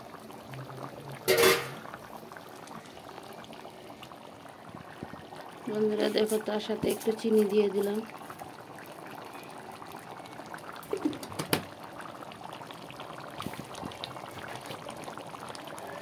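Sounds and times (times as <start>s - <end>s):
curry boiling and bubbling: 0.0s - 16.0s.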